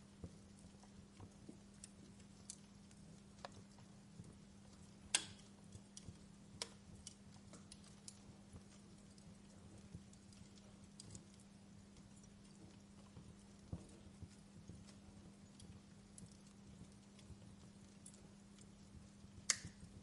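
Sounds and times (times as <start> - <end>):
faint low hum: 0.0 - 20.0
wood fire crackling: 0.0 - 20.0.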